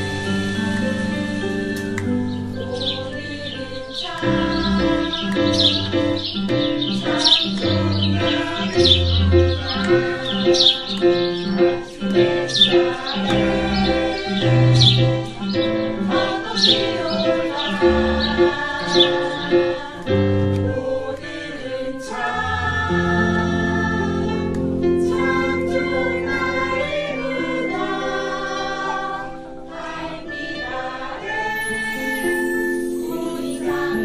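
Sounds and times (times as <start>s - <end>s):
group of voices singing: 0.0s - 34.0s.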